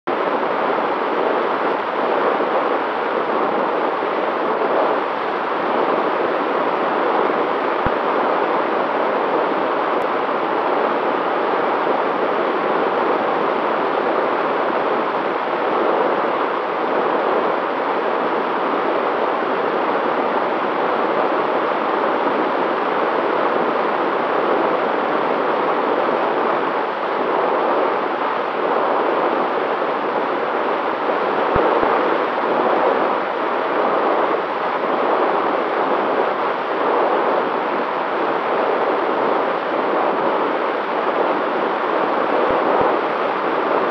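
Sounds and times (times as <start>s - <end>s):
faint steady whine: 0.1s - 43.9s
airflow and propeller noise: 0.2s - 43.9s.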